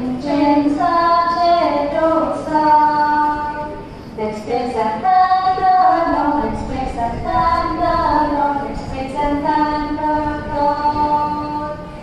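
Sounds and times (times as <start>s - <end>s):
children singing a hymn: 0.0s - 12.0s.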